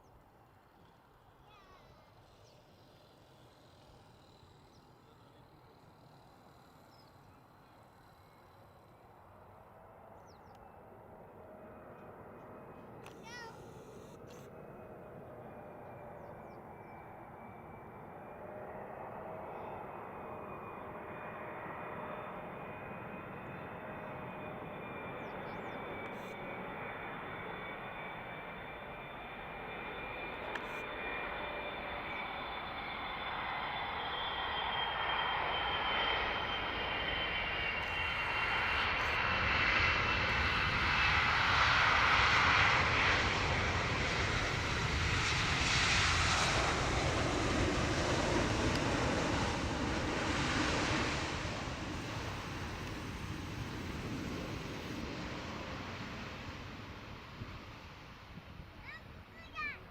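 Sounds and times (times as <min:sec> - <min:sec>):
jet airliner whine: 0:00.0 - 0:59.9.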